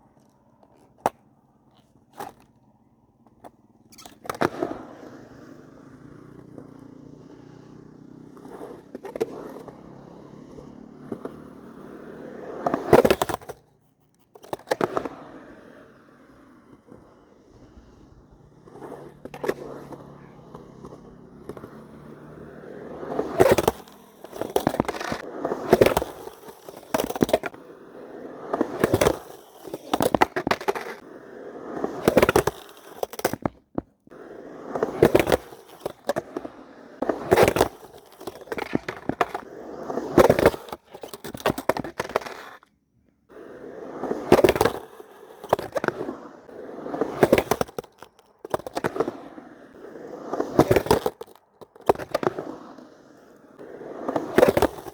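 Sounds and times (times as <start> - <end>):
skateboard popping and landing: 0.0 - 54.9
skateboard wheels rolling on concrete: 0.0 - 54.9.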